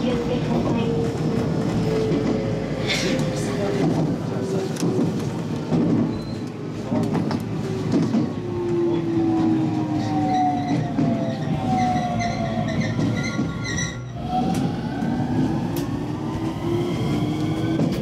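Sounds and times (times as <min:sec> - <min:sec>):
wheels rumbling on rails: 0:00.0 - 0:18.0.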